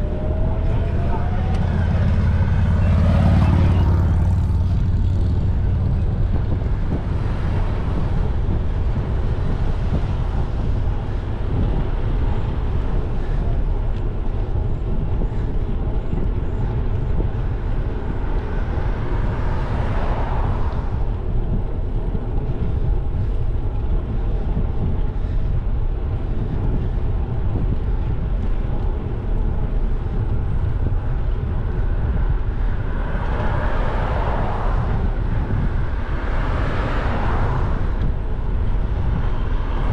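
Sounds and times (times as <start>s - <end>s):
bicycle tyres on asphalt: 0.0s - 39.9s
car passing: 0.0s - 39.9s
wind rumble on microphone: 0.0s - 39.9s.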